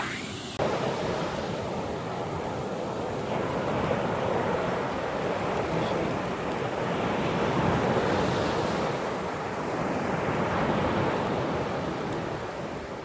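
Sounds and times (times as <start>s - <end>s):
sea surf washing on shore: 0.0s - 13.0s
wind buffeting microphone: 0.0s - 13.0s.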